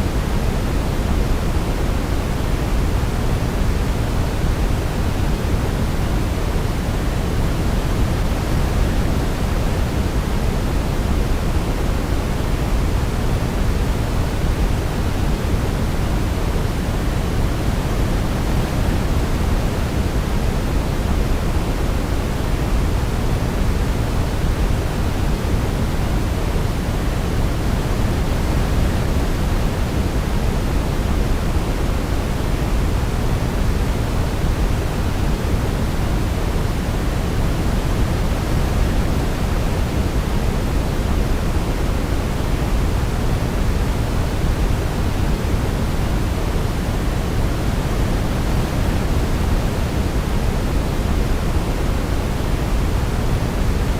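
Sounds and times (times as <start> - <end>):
white noise hiss: 0.0 - 53.9.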